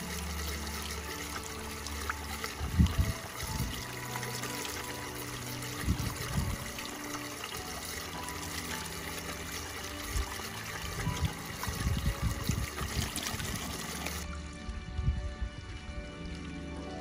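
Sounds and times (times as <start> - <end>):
soft background music: 0.0 - 17.0
water trickling: 0.0 - 17.0.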